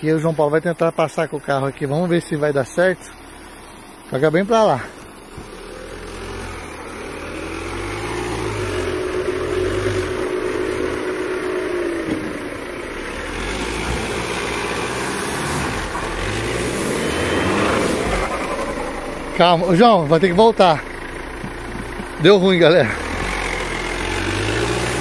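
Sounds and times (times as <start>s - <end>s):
car engine under load: 0.0s - 25.0s
steady hum: 1.0s - 24.1s.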